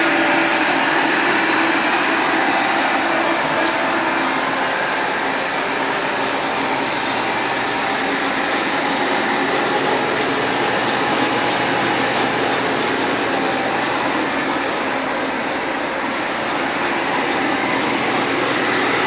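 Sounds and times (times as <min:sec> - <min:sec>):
lathe running: 0:00.0 - 0:19.0.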